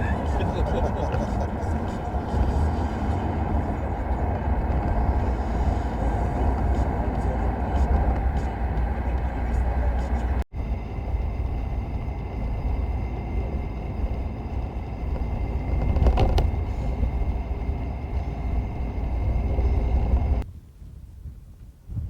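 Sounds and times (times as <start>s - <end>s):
car rumble from inside cabin: 0.0s - 20.5s.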